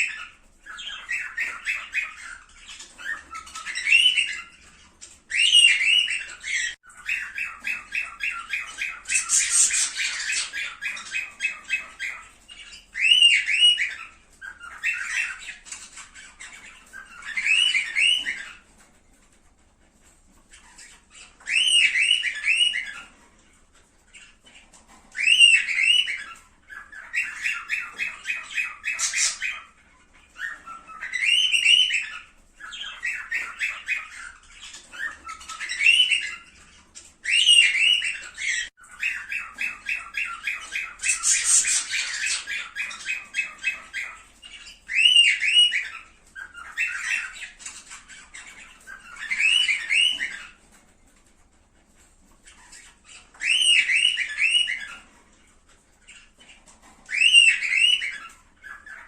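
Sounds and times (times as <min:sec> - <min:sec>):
cockatiels squawking and chattering: 0:00.0 - 0:59.0.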